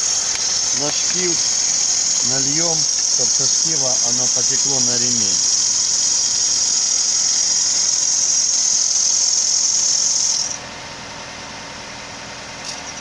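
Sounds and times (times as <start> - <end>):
drive belt squealing: 0.0 - 10.6
car engine idling: 0.0 - 13.0.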